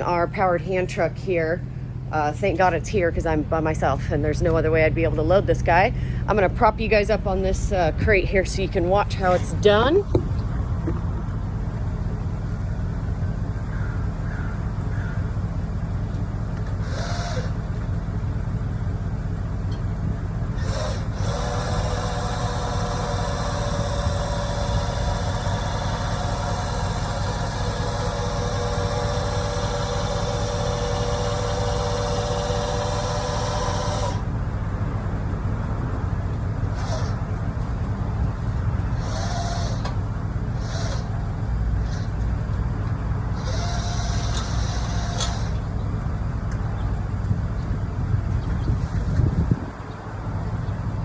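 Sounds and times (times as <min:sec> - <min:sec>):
electric lift motor whining: 0:00.0 - 0:51.0
low rumble: 0:00.0 - 0:51.0.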